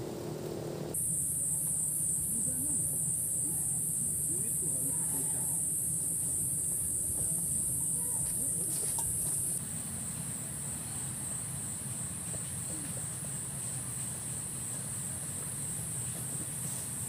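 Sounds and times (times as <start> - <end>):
high-pitched insect chorus: 0.9 - 17.0.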